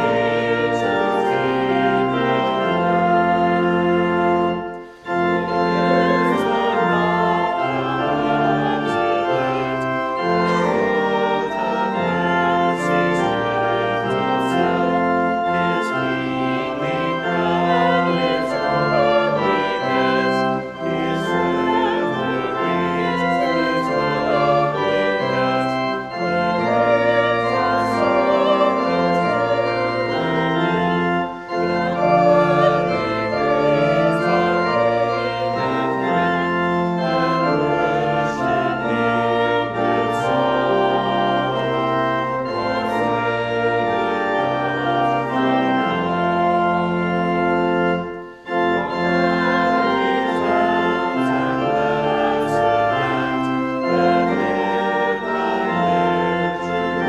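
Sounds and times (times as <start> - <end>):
pipe organ playing a hymn: 0.0 - 57.0.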